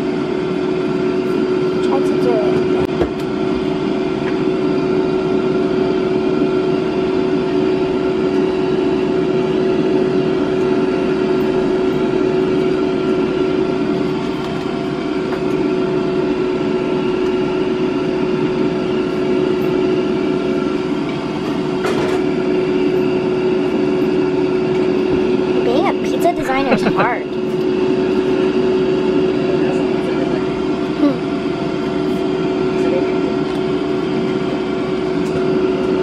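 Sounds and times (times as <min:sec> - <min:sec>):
electric fan humming: 0:00.0 - 0:36.0.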